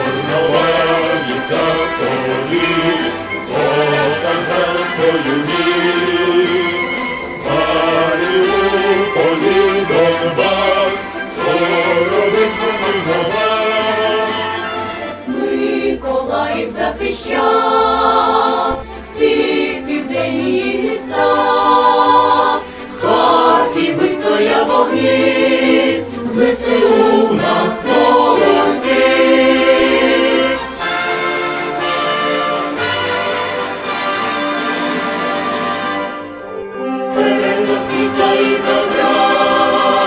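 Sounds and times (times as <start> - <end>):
choir singing in harmony: 0.0 - 40.0
instrumental accompaniment: 0.1 - 39.7.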